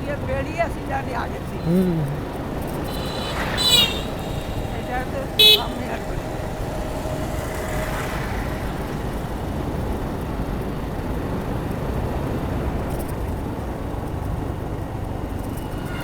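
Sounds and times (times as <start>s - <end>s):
motorcycle road and wind noise: 0.0s - 16.0s.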